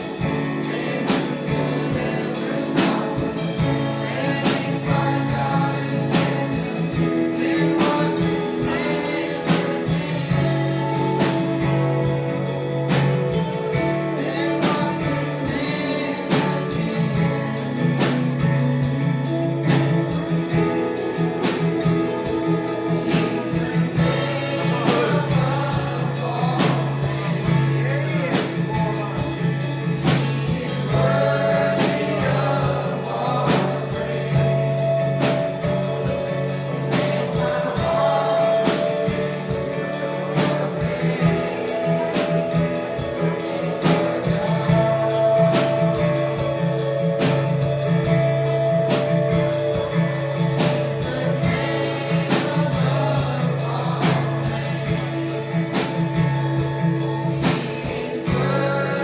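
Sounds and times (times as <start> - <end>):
band with guitar and drums: 0.0 - 59.0
gospel singing: 0.0 - 59.0.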